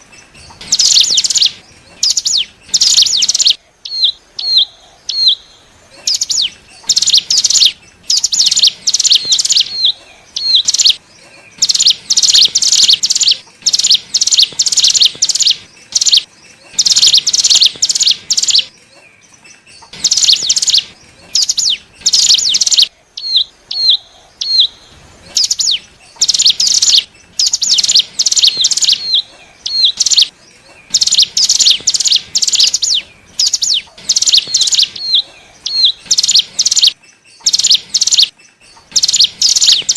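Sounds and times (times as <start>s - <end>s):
bird singing rapid high notes: 0.0s - 39.9s.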